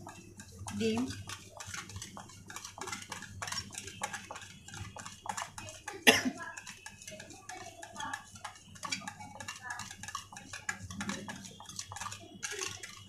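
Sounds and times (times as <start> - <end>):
wire whisk beating in a bowl: 0.0 - 13.0.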